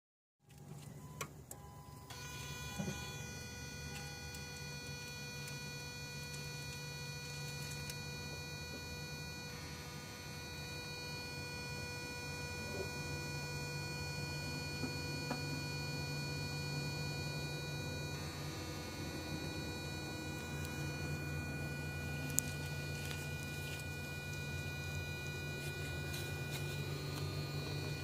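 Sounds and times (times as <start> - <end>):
throttle motor electric buzz: 2.0 - 28.0.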